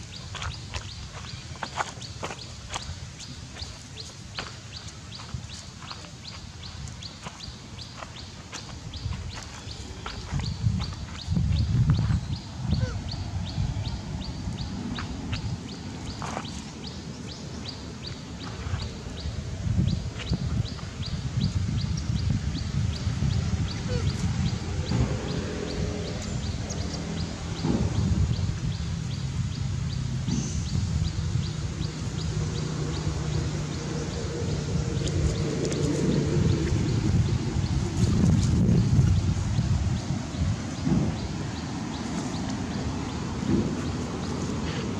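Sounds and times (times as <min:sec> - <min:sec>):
low rumbling background: 0:00.0 - 0:44.6
bird chirping: 0:00.0 - 0:44.8.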